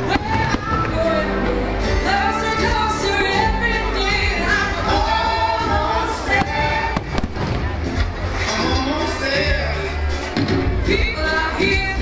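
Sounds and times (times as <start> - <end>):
music with vocals over loudspeakers: 0.0 - 12.0.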